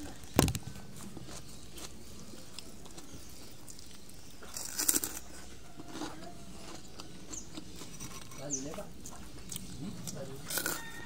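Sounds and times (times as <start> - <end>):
crisp crunching: 0.0 - 11.0
person chewing: 0.5 - 11.0.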